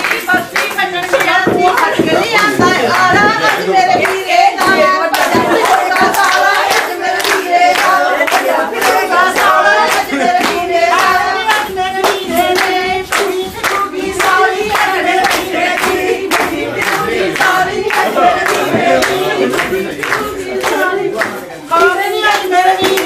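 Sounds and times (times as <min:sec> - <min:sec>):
group of voices singing: 0:00.0 - 0:23.0
hand clapping: 0:00.0 - 0:23.0.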